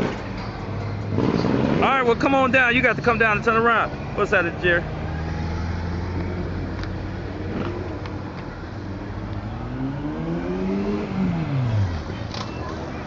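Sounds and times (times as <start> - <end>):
car engine accelerating: 0.0 - 13.0
cars passing on street: 0.0 - 13.0.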